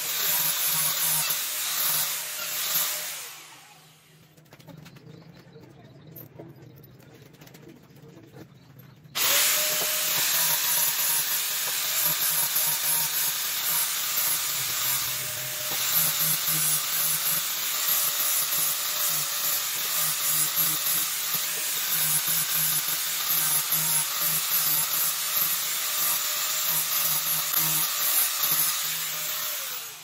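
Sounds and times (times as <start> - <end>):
angle grinder sanding wood: 0.0 - 3.4, 9.2 - 30.0.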